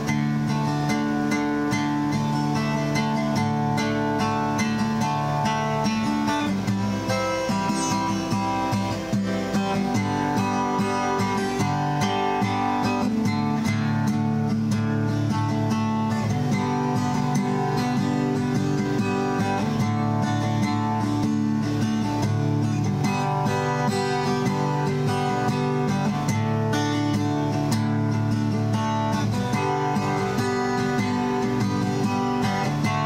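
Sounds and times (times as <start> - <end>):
guitar strumming: 0.0 - 33.0.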